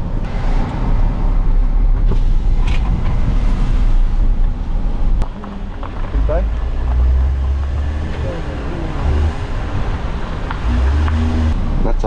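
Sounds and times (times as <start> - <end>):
car interior road noise: 0.0 - 12.0.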